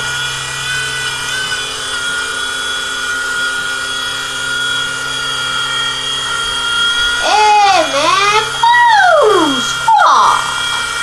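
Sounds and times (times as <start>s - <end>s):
toy airplane motor whining: 0.0s - 11.0s.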